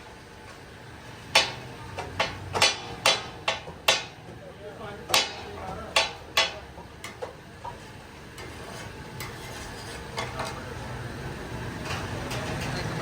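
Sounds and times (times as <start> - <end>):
low traffic hum: 0.0 - 13.0.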